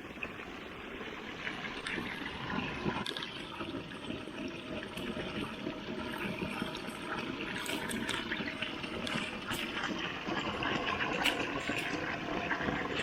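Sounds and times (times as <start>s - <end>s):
running water flowing: 0.0s - 13.0s.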